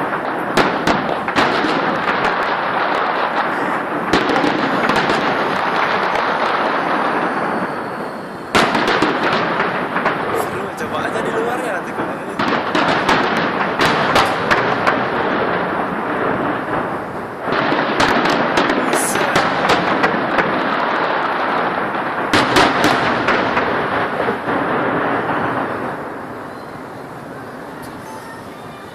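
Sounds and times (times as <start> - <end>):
fireworks crackling and banging: 0.0 - 28.9.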